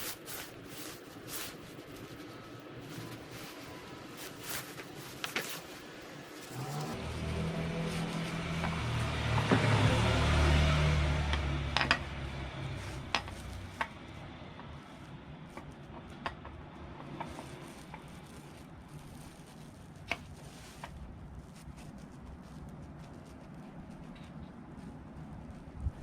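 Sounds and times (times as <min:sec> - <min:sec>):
vehicle engine hum: 0:01.7 - 0:26.0.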